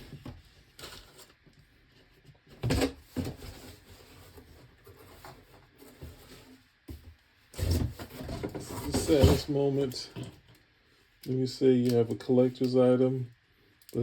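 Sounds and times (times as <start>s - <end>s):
soft rustling of packaging: 0.0s - 14.0s.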